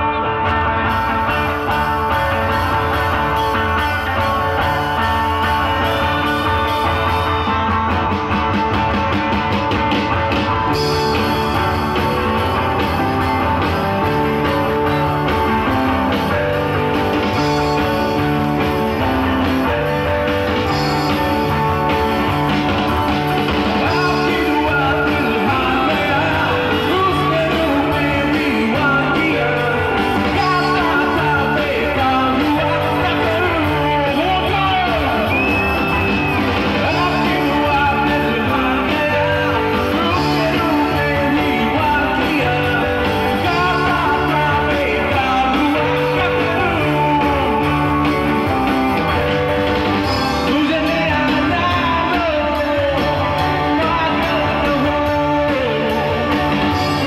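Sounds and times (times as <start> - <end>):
drums: 0.0 - 57.0
electric guitars: 0.0 - 57.0
person singing: 0.0 - 57.0.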